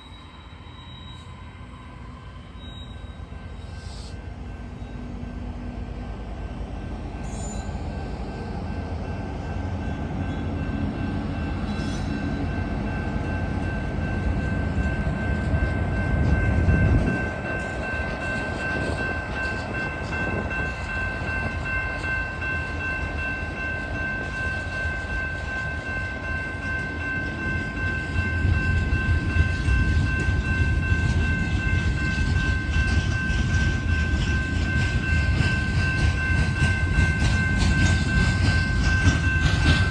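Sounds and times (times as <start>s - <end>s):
diesel locomotives rumbling: 0.0s - 39.9s.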